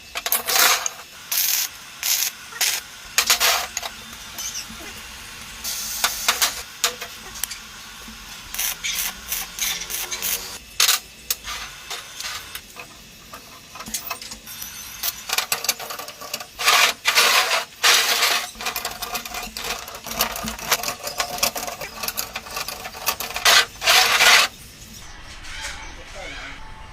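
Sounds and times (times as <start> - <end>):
welding crackling: 0.0 - 24.9.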